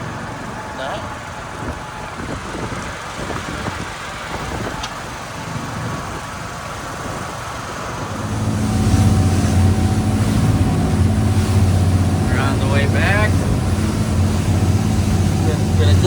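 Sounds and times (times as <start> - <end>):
boat diesel engines droning: 0.0 - 16.0
rush of wind and water: 0.0 - 16.0.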